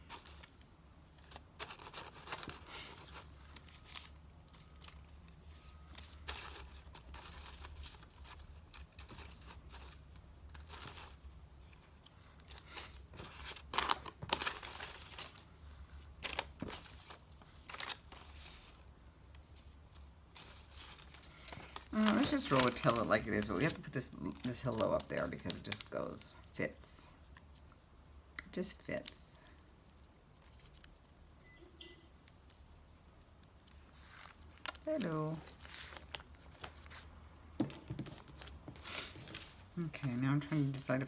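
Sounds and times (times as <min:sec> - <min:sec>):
paper rustling and crinkling: 0:00.0 - 0:27.9, 0:28.6 - 0:31.4, 0:32.1 - 0:41.0.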